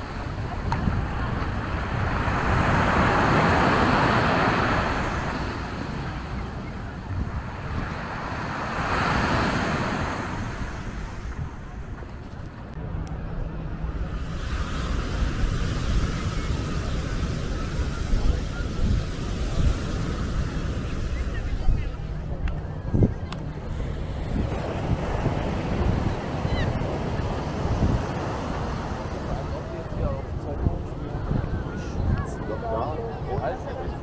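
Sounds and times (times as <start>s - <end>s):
surf breaking on beach: 0.0s - 12.0s, 14.1s - 30.5s
wind rumbling on microphone: 0.0s - 34.0s.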